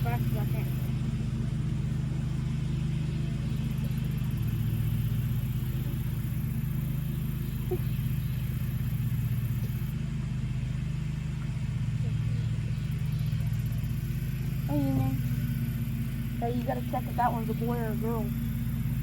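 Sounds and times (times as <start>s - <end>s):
low mechanical drone: 0.0s - 19.0s.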